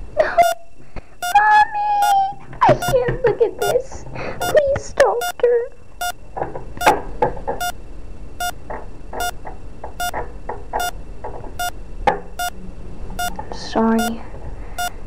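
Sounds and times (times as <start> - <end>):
heart monitor beeping: 0.2 - 6.2, 6.8 - 7.8, 8.4 - 8.6, 9.2 - 10.2, 10.8 - 11.0, 11.6 - 15.0.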